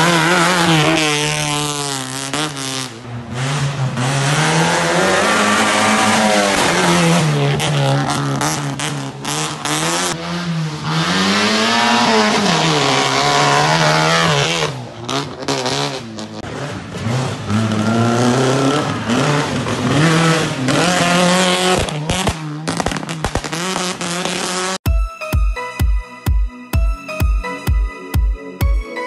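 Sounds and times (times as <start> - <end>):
rally car engines revving: 0.0 - 24.8.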